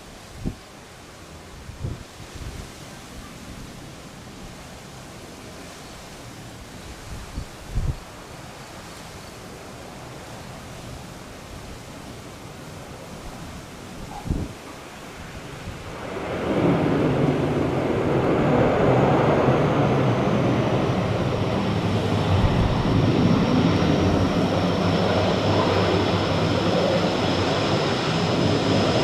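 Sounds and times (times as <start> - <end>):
turboprop plane engines: 0.2 - 29.0.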